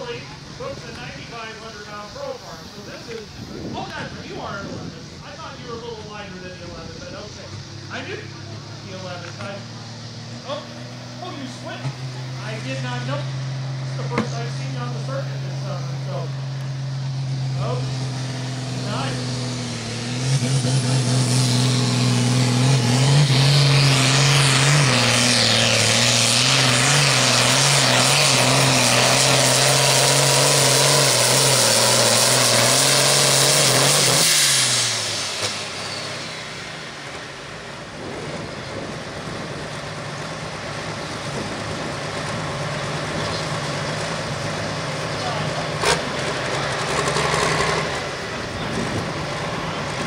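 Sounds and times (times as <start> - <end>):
tractor diesel engine: 0.0 - 50.0.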